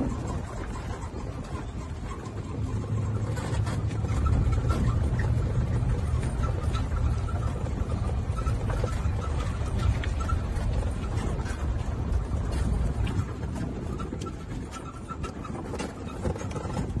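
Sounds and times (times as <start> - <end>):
faint clicks and rattles: 0.0 - 17.0
golf cart rumble: 0.0 - 17.0.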